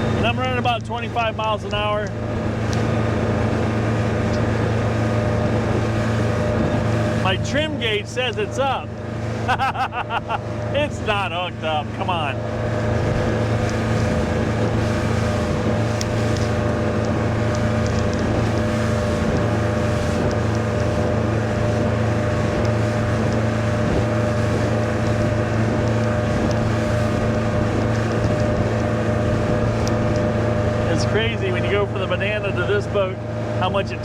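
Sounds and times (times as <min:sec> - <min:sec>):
boat engine droning: 0:00.0 - 0:34.0
wind and water rushing: 0:00.0 - 0:34.0.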